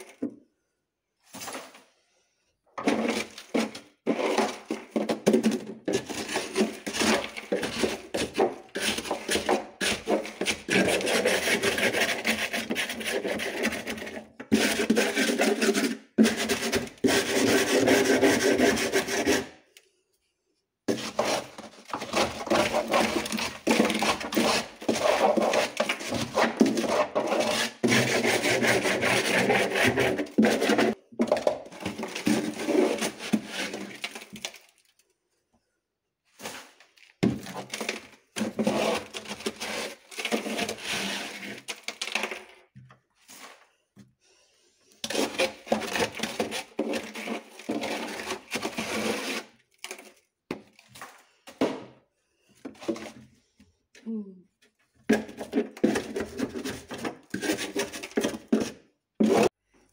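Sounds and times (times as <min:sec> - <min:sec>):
plastic scraper scraping ice: 0:02.8 - 0:19.6, 0:20.9 - 0:34.8, 0:36.3 - 0:43.7, 0:44.9 - 0:51.7, 0:52.6 - 0:53.2, 0:55.1 - 0:59.6.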